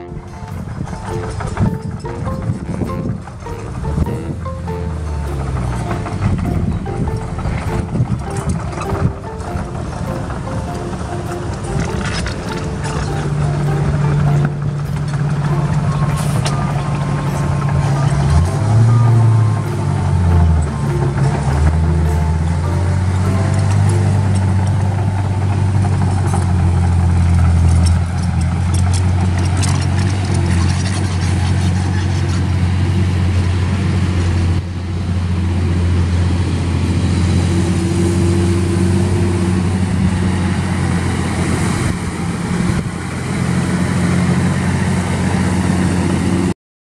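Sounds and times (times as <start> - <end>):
heavy diesel engines droning: 0.0 - 46.6.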